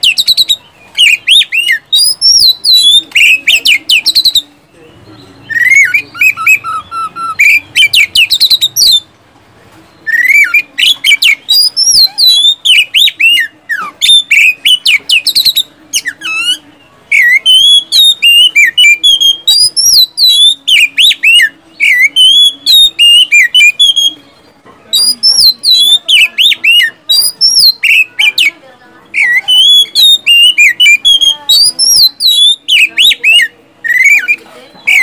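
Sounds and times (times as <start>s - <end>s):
bird singing whistled notes: 0.0s - 9.1s, 9.9s - 24.3s, 24.9s - 28.5s, 29.1s - 35.0s.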